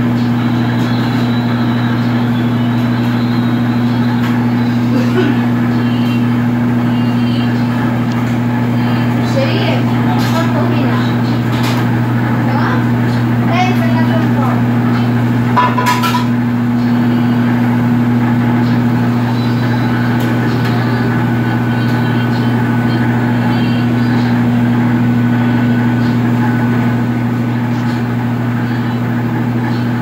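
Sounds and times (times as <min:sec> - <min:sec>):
gas burner rushing hum: 0:00.0 - 0:30.0.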